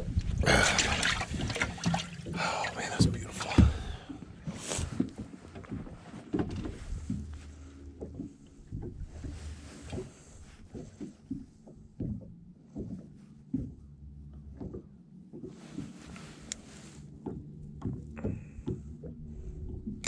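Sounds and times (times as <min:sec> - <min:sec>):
small waves slapping boat hull: 0:00.0 - 0:20.0
steady low hum: 0:00.0 - 0:20.0.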